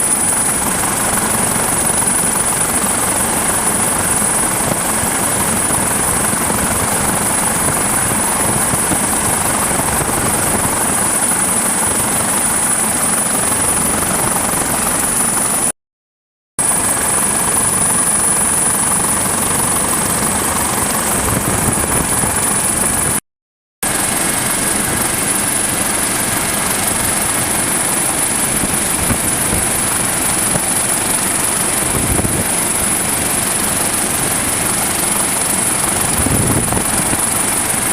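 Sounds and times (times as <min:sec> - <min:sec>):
helicopter running with whine: 0:00.0 - 0:15.8, 0:16.6 - 0:23.2, 0:23.8 - 0:37.9.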